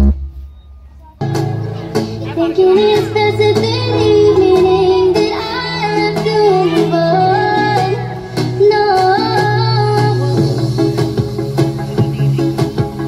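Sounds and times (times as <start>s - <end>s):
loud music over sound system: 0.0s - 13.0s.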